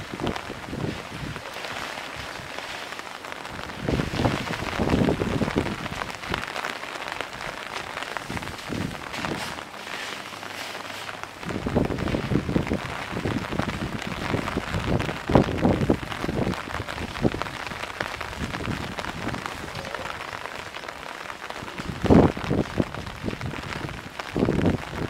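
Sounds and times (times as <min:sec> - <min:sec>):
rain pattering on ground: 0:00.0 - 0:25.0.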